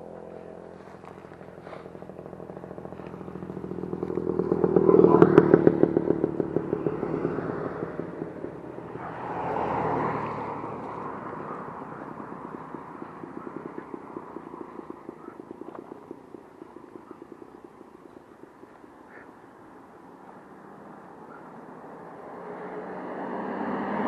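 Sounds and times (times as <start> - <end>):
moped engine buzzing: 0.0 - 23.4.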